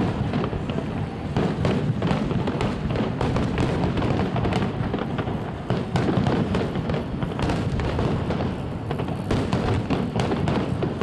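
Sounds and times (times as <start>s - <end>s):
fireworks bursts and crackling: 0.0s - 11.0s
loud fireworks pops: 0.0s - 11.0s.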